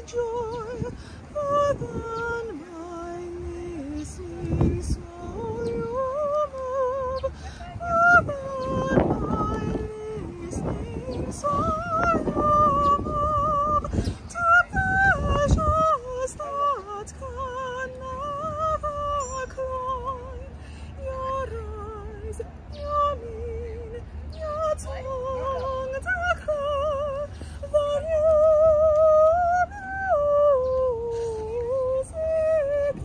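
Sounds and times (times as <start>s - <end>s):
woman singing soprano: 0.0s - 33.0s.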